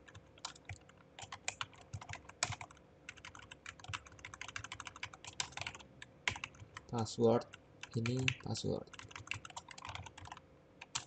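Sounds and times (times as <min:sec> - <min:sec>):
typing on computer keyboard: 0:00.0 - 0:06.8, 0:07.8 - 0:11.0.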